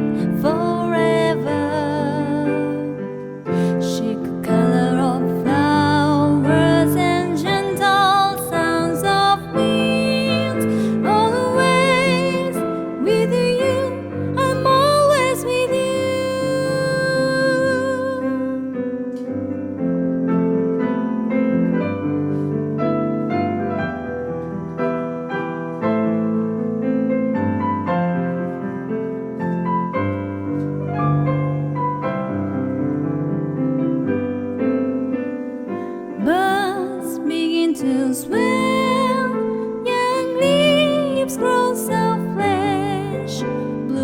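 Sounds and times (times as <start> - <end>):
solo piano ballad: 0.0 - 44.0.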